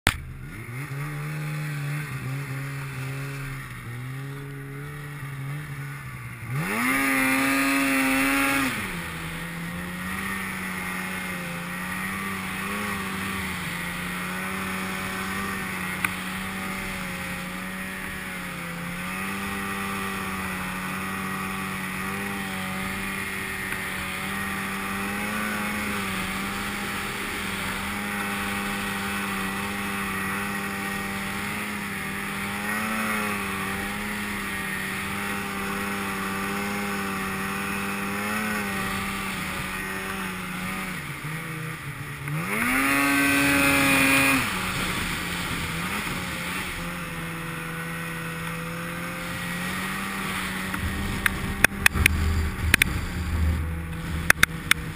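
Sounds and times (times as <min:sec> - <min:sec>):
snowmobile engine revving: 0:00.1 - 0:54.9.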